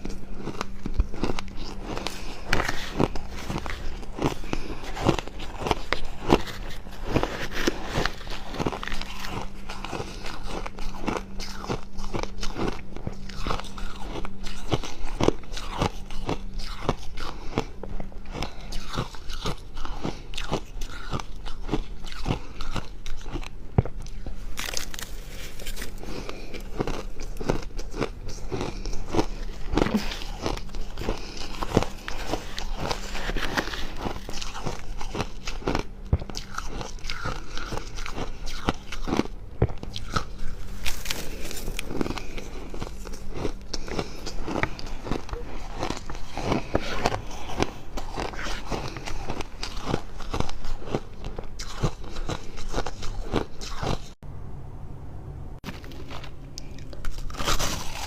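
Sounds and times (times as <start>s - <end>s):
chewing frost crunches: 0.0s - 54.2s, 55.6s - 58.0s.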